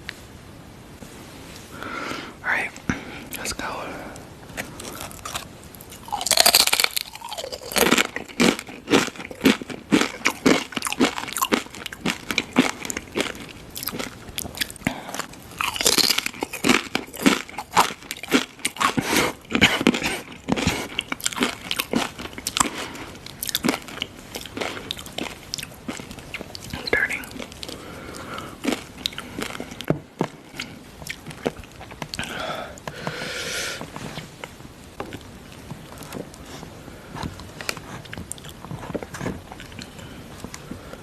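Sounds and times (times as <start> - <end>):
chewing crunchy food: 4.5 - 33.2, 34.0 - 41.0.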